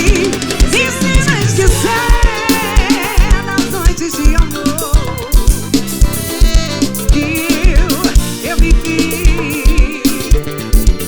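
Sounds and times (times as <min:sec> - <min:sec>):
bass: 0:00.0 - 0:11.0
kick drum beat: 0:00.0 - 0:11.0
wavering lead melody: 0:00.0 - 0:11.0.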